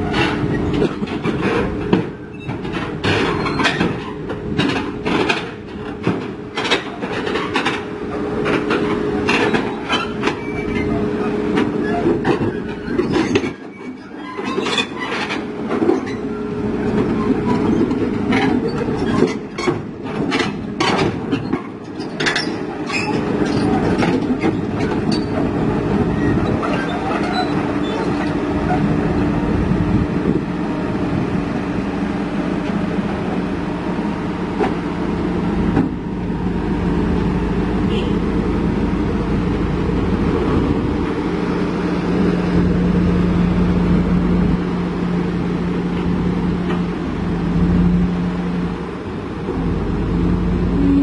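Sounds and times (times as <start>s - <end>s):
diesel engine running: 0.0s - 51.0s
steel tracks clanking: 0.0s - 51.0s.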